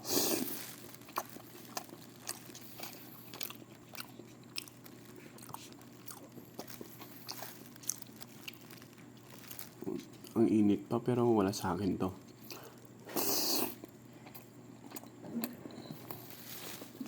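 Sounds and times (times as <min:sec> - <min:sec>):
person chewing wetly: 0:00.1 - 0:10.4, 0:12.4 - 0:16.2.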